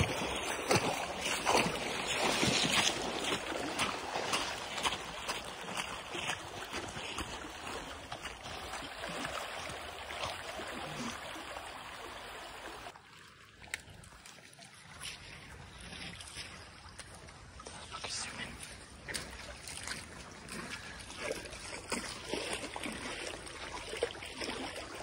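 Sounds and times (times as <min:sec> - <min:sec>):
floodwater rushing in a creek: 0:00.0 - 0:25.0.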